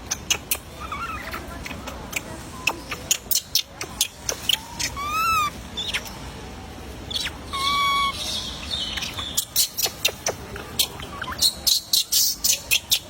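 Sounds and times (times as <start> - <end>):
baby monkey crying: 0.1 - 2.2, 3.0 - 6.1, 7.1 - 13.0.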